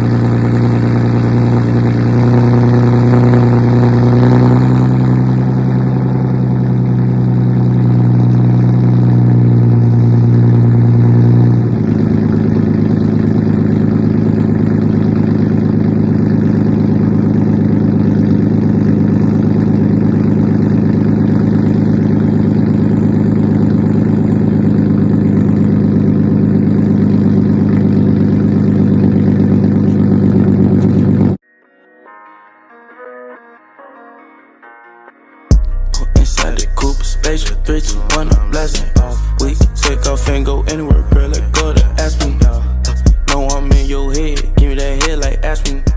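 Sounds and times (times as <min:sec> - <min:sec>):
car engine idling: 0:00.0 - 0:31.4, 0:35.5 - 0:45.9.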